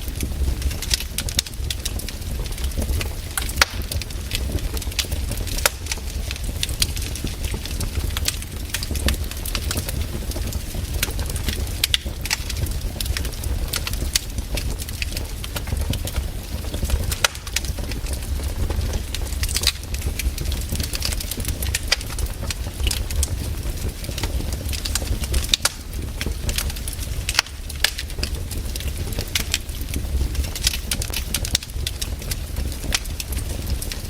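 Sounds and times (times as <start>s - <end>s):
fireplace fire crackling: 0.0s - 34.0s
low fire rumble: 0.0s - 34.0s.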